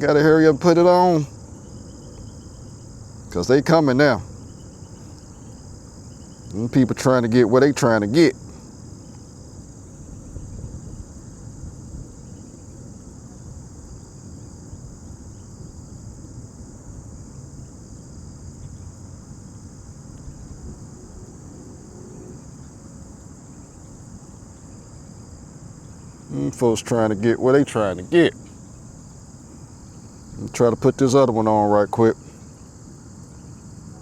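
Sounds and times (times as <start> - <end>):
insects trilling: 0.0 - 34.0
low uneven rumble: 0.0 - 34.0.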